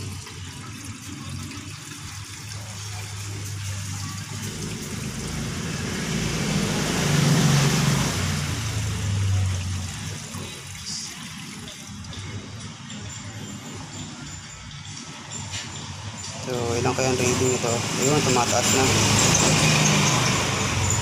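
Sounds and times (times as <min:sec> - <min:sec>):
fuel pouring through a funnel: 0:00.0 - 0:21.0.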